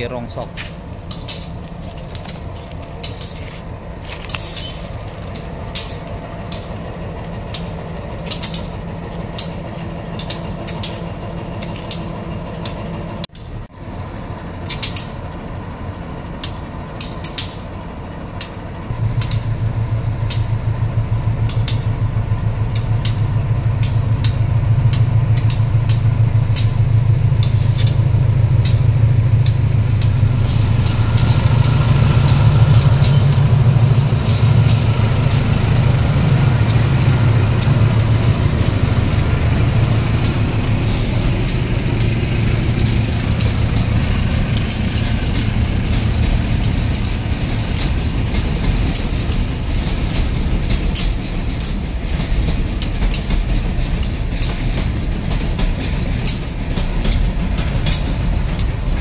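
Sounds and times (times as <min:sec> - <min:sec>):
diesel locomotive engine drone: 0:00.0 - 0:59.0
low train rumble: 0:00.0 - 0:59.0
train wheels clicking over rail joints: 0:00.0 - 0:59.0.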